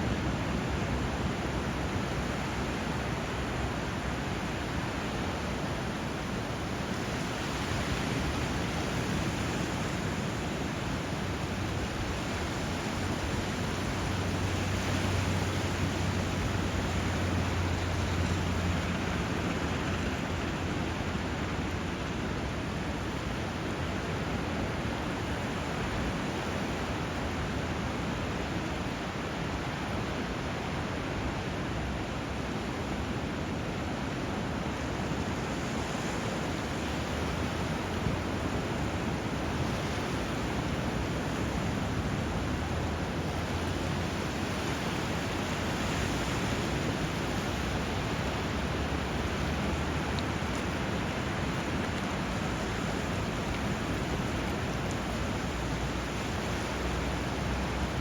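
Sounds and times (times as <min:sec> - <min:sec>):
flowing water and surf: 0:00.0 - 0:58.0.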